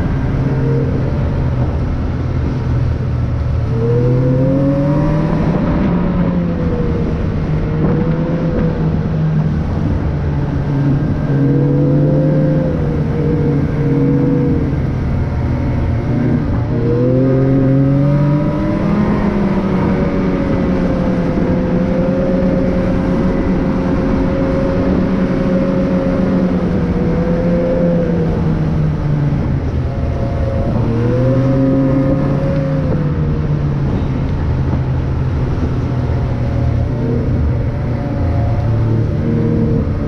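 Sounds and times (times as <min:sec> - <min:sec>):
road noise: 0:00.0 - 0:40.0.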